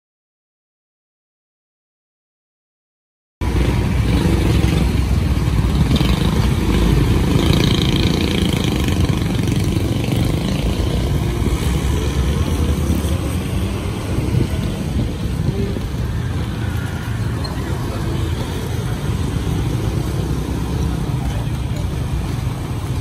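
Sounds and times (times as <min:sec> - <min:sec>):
cars driving past: 0:03.4 - 0:23.0
motorcycles driving past: 0:03.4 - 0:23.0.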